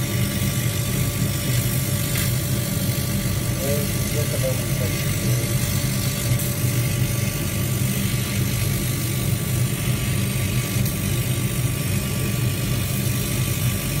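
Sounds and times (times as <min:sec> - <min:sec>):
laser cutter humming and hissing: 0:00.0 - 0:14.0.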